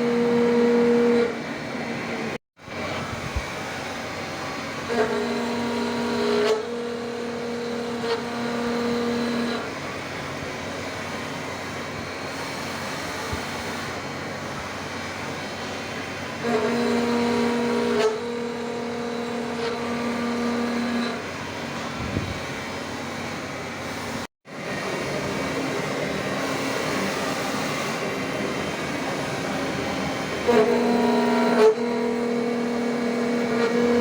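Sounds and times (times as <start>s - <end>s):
milling machine running: 0.0s - 34.0s.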